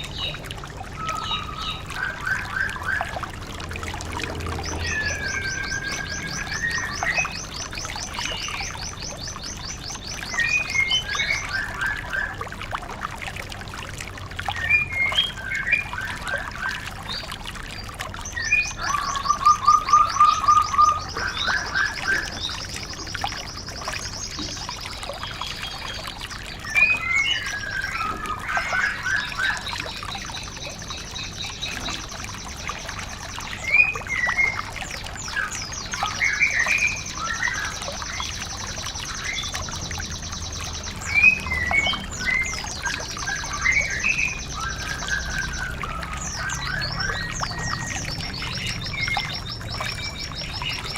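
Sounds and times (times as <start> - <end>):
bird chirping and trilling: 0.0 - 12.4, 14.6 - 50.9
water trickling: 0.0 - 50.9.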